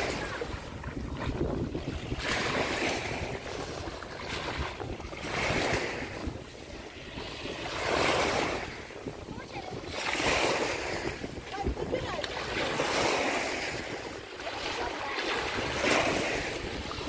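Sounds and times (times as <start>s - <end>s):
waves washing up a sandy shore: 0.0s - 17.0s.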